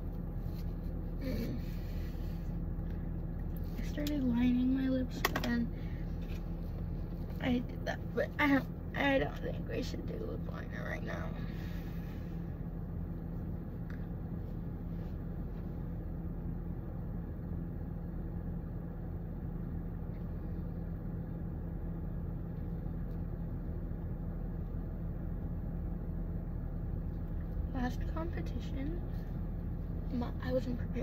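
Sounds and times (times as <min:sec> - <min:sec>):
car cabin hum and rumble: 0:00.0 - 0:31.0.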